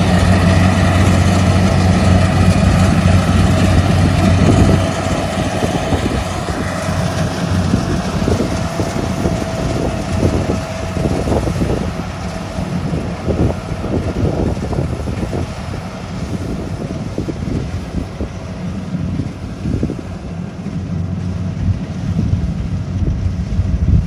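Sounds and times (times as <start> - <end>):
wind on microphone: 0.0 - 20.5, 21.3 - 24.0
combine harvester engine humming: 0.0 - 24.0.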